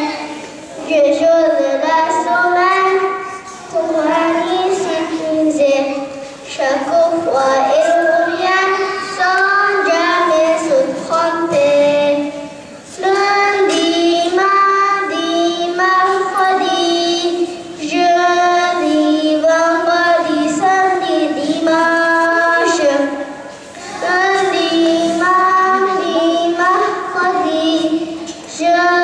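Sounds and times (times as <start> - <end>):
girl singing into a microphone: 0.0 - 29.0.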